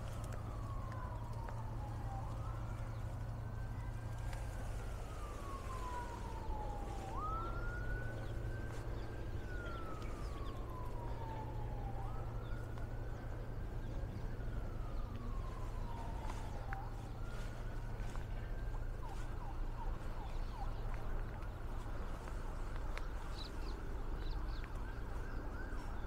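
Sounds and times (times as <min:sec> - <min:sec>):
siren wailing: 0:00.0 - 0:26.0
steady low rumble: 0:00.0 - 0:26.0.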